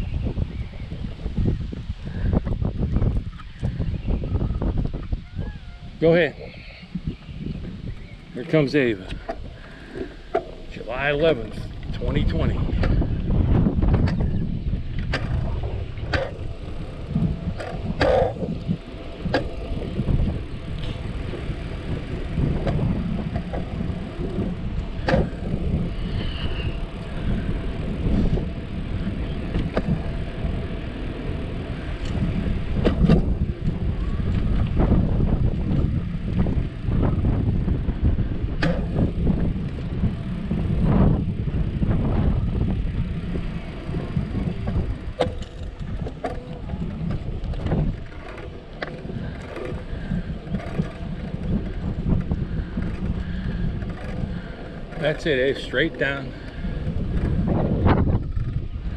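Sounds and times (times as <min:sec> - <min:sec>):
bicycle rolling on concrete: 0:00.0 - 0:58.9
wind rumbling on microphone: 0:00.0 - 0:58.9.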